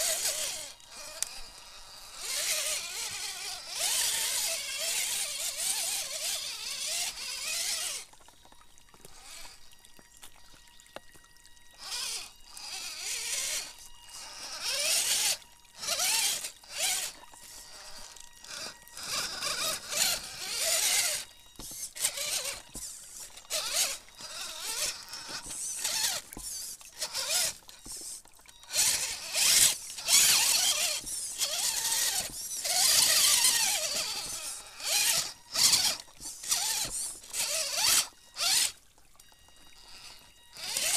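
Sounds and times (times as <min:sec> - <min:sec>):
electric motor whining: 0:00.0 - 0:40.9
water splashing under tyres: 0:00.0 - 0:40.9.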